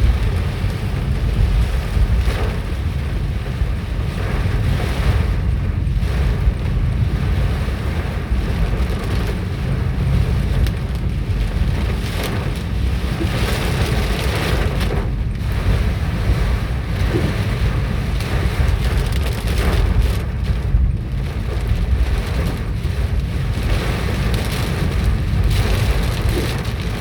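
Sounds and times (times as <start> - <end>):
hailstorm rushing: 0.0 - 27.0
wind buffeting microphone: 0.0 - 27.0.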